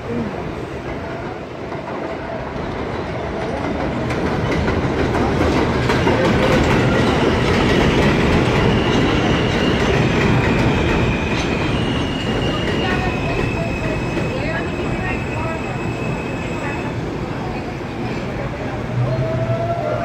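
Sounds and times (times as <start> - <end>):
train wheels clattering over rails: 0.6 - 18.4.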